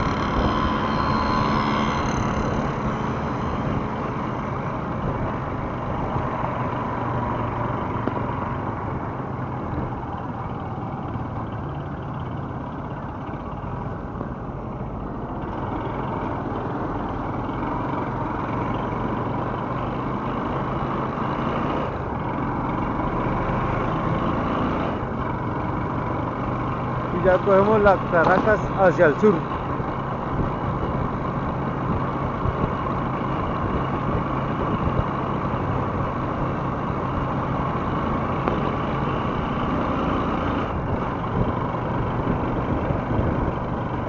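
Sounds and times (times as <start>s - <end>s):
motorcycle engine running: 0.0s - 21.2s, 25.0s - 44.0s
hum of traffic: 0.0s - 44.0s.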